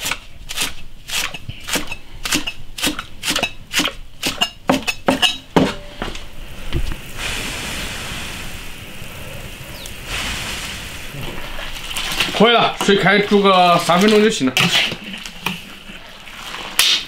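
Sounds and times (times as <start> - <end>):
water boiling in a wok: 0.7 - 17.0.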